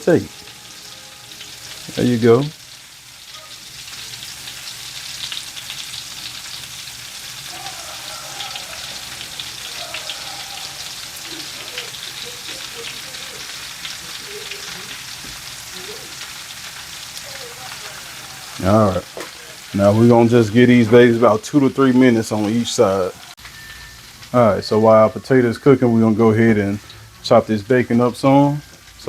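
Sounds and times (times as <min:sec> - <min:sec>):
potatoes sizzling in a pan: 0:00.0 - 0:29.0.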